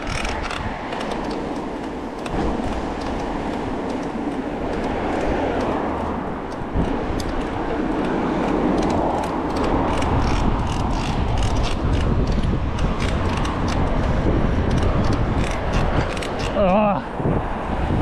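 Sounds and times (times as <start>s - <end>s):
bike clicks and rattles: 0.0s - 16.8s
bike tyre and wind rush: 0.0s - 18.0s.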